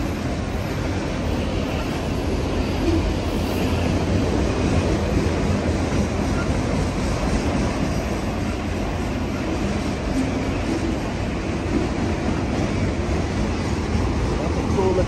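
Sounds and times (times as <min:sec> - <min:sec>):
freight train rolling past: 0:00.0 - 0:15.0
train wheels on rails: 0:00.0 - 0:15.0.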